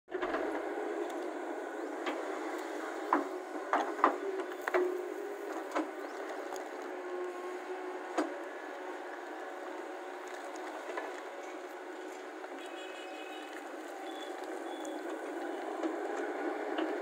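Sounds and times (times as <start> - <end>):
excavator diesel engine running: 0.1 - 17.0.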